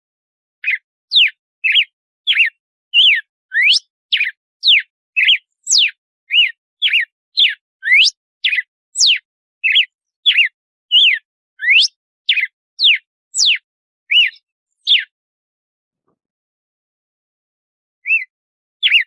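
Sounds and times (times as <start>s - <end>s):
bird singing whistled notes: 0.6s - 15.2s, 18.0s - 19.0s.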